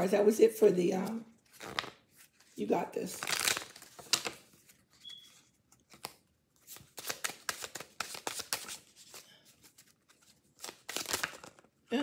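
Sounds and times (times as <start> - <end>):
paper cards being shuffled: 0.9 - 11.7.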